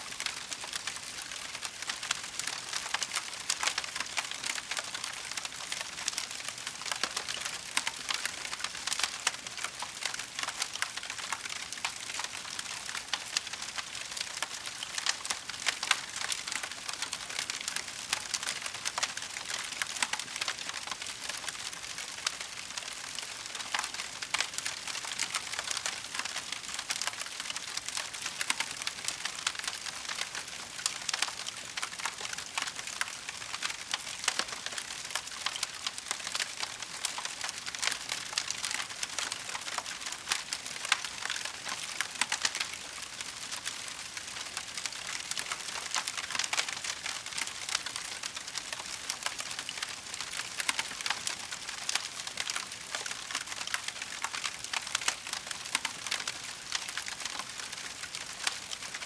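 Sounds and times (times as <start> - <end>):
wood fire crackling: 6.5 - 59.0.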